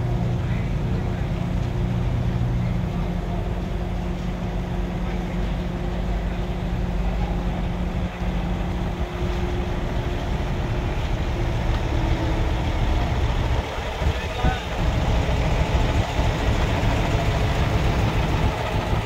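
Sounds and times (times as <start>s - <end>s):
diesel engines humming: 0.0s - 19.0s.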